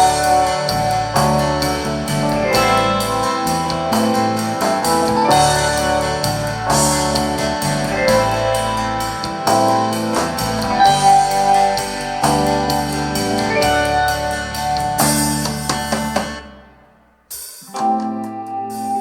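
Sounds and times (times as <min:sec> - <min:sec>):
music with keyboard and drums: 0:00.0 - 0:19.0.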